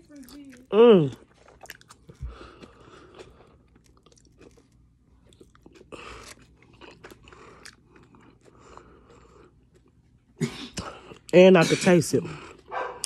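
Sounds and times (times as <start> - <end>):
person chewing food: 0.0 - 11.4.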